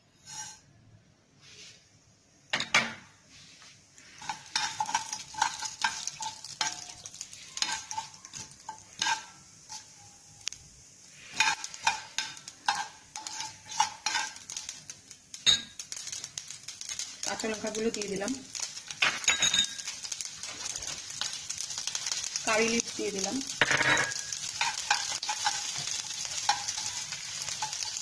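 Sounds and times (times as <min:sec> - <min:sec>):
spoon scraping a pan: 0:00.2 - 0:00.6, 0:04.0 - 0:10.2, 0:11.2 - 0:22.9, 0:23.5 - 0:28.0
seeds popping in hot oil: 0:04.0 - 0:28.0.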